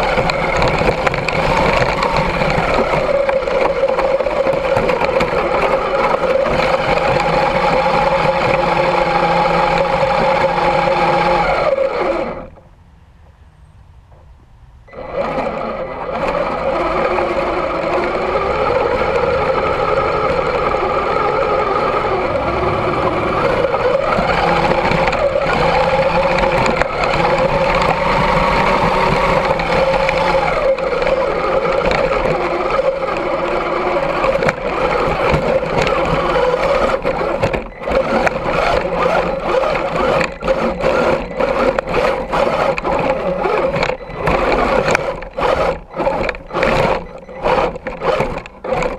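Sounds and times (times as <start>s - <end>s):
electric motor whining: 0.0s - 12.6s, 14.9s - 48.9s.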